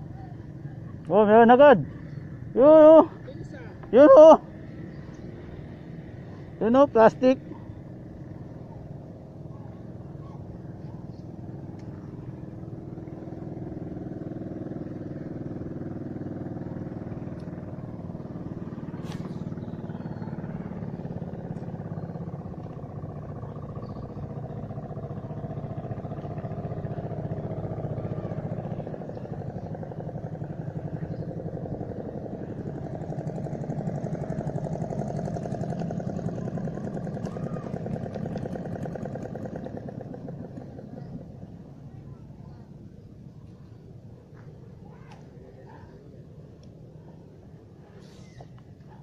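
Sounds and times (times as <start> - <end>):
small engine running: 0.0 - 43.6.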